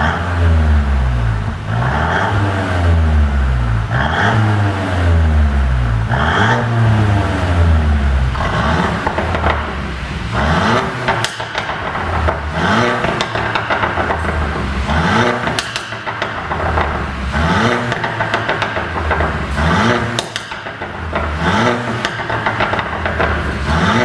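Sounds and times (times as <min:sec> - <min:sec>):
car engine revving: 0:00.0 - 0:24.0
exhaust pops and crackles: 0:00.0 - 0:24.0.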